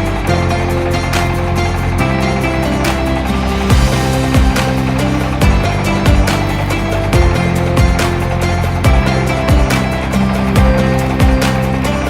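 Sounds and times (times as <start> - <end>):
music with drum beat and bass: 0.0 - 12.0.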